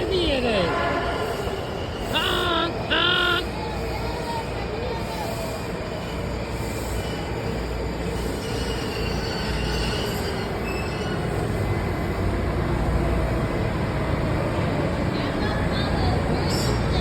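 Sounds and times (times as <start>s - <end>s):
train rumbling: 0.0s - 17.0s
wheels squealing on rails: 0.0s - 17.0s.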